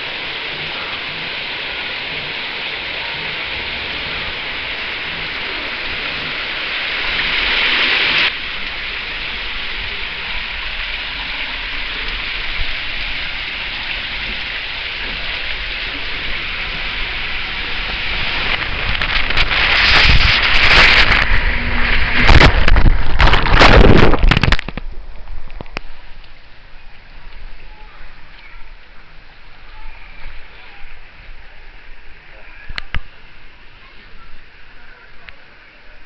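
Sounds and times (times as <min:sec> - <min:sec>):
water rushing through slide tube: 0:00.0 - 0:36.0.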